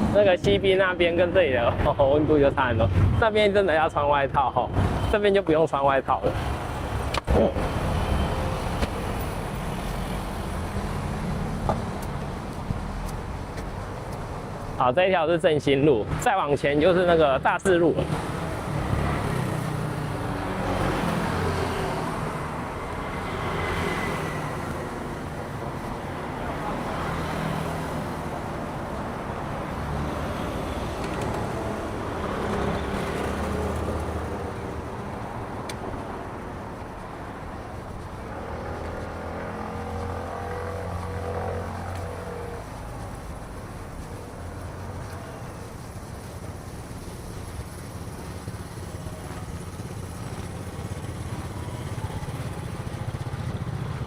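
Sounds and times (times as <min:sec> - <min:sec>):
cars and motorbikes passing: 0:00.0 - 0:54.0.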